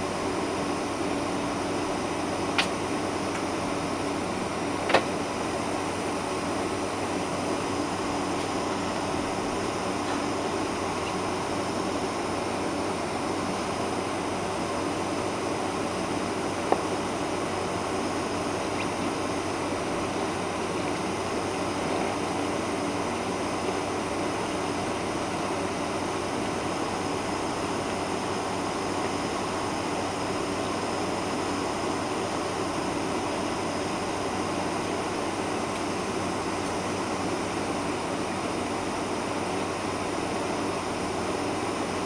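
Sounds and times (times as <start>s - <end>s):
cabin air: 0.0s - 42.0s
jet engines at taxi power: 0.0s - 42.0s.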